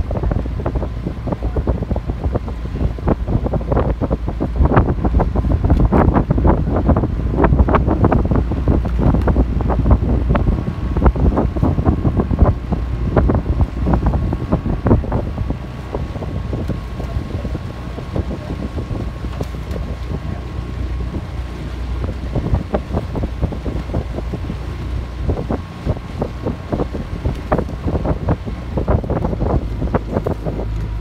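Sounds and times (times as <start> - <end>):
motorboat engine rumble: 0.0 - 31.0
wind buffeting microphone: 0.0 - 31.0.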